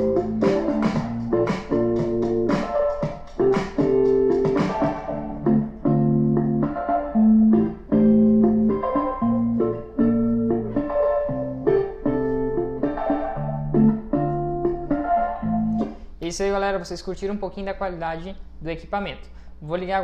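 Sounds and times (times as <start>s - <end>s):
instrumental music with held chords: 0.0s - 16.2s.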